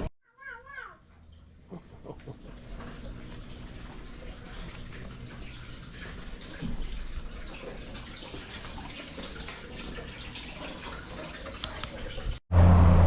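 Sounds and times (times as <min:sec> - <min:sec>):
water dripping and trickling: 0:01.0 - 0:12.4.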